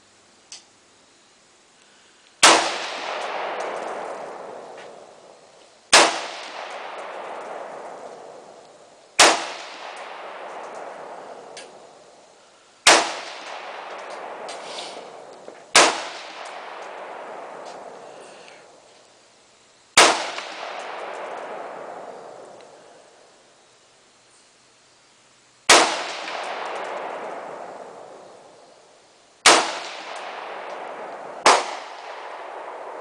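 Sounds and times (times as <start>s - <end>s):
rifle shots with long echo: 2.4s - 18.9s, 19.9s - 23.4s, 25.6s - 33.0s.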